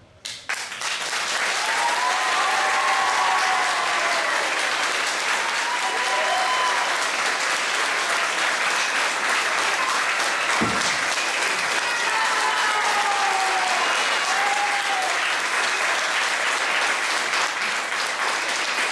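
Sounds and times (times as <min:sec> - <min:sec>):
audience applauding: 0:00.5 - 0:18.9.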